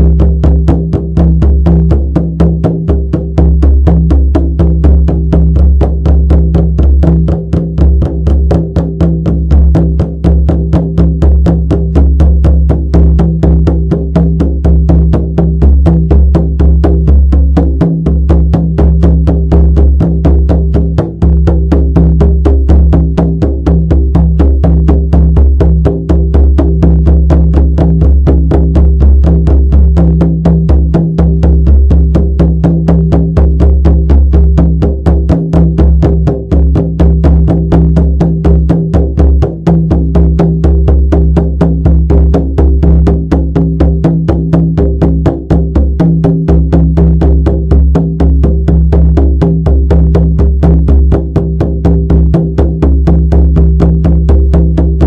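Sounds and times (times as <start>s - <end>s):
frame drum booming beats: 0.0s - 55.0s.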